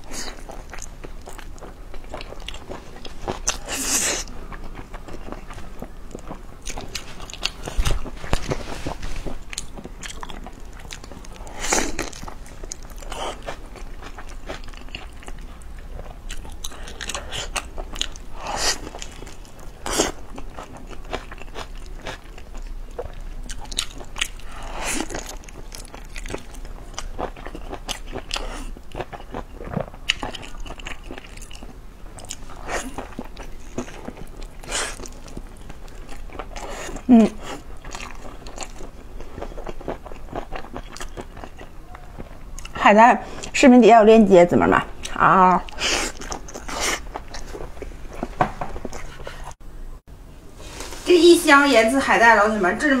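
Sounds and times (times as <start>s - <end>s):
chewing with mouth clicks: 0.0s - 43.6s, 45.0s - 49.6s.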